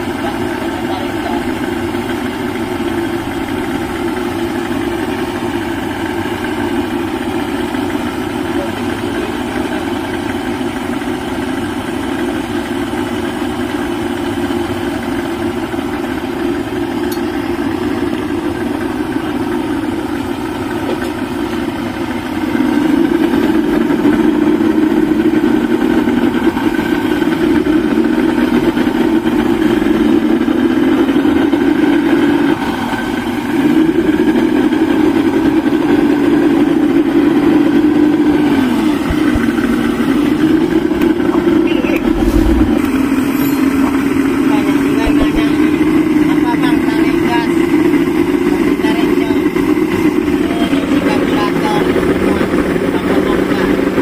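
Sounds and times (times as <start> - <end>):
outboard engine running: 0.0 - 54.0.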